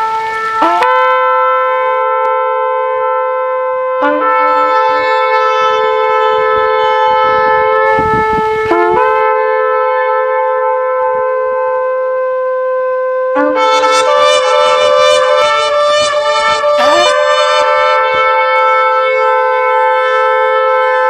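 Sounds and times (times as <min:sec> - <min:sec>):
shofar blasts: 0:00.0 - 0:21.0.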